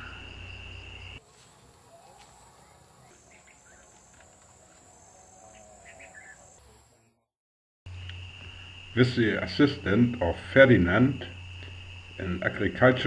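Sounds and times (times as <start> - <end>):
insects chirping: 0.0 - 7.1, 7.9 - 13.0.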